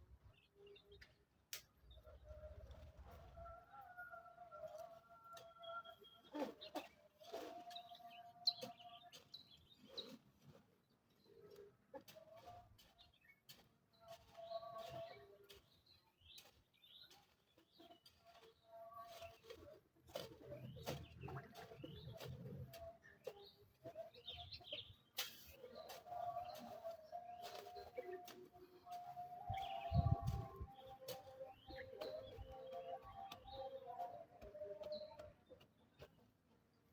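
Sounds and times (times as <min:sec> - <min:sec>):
chickens calling: 0:02.0 - 0:10.6, 0:11.5 - 0:36.3.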